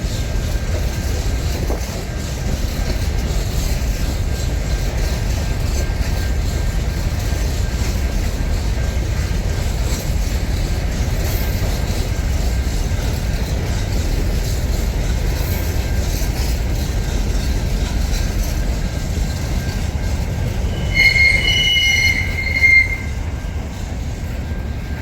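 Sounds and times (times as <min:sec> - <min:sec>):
freight train rumbling past: 0:00.0 - 0:25.0
train wheel squeal: 0:00.0 - 0:25.0.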